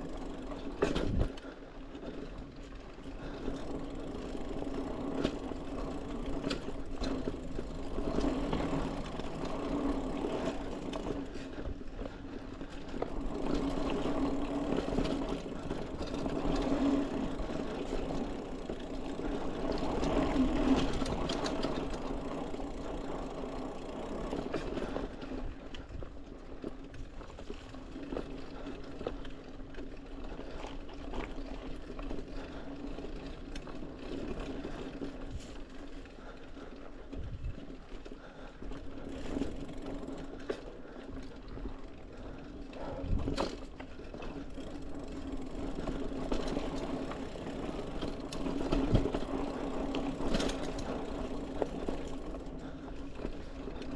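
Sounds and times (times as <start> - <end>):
bicycle whirring hum: 0.0 - 53.9
bike clicks and rattles: 0.0 - 53.9.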